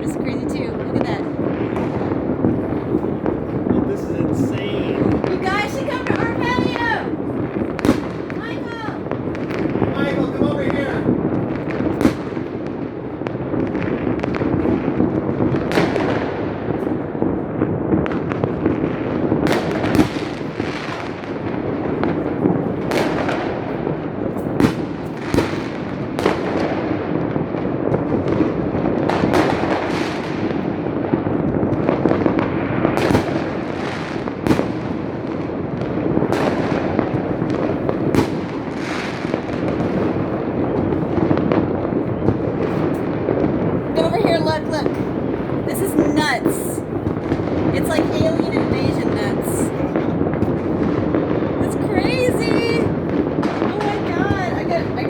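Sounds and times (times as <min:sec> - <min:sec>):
distant fireworks rumble and crackling: 0:00.0 - 0:55.0
sharp firework bangs: 0:00.0 - 0:55.0.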